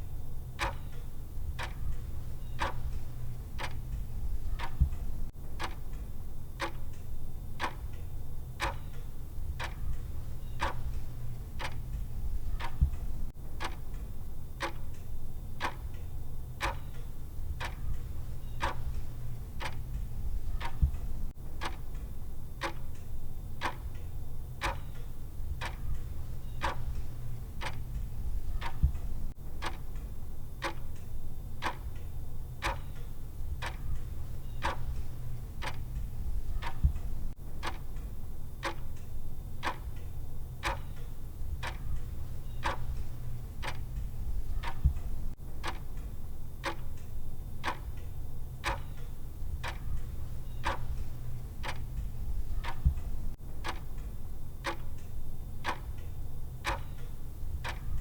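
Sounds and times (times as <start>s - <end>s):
low steady hum: 0.0s - 58.0s
timer ticking: 0.0s - 58.0s.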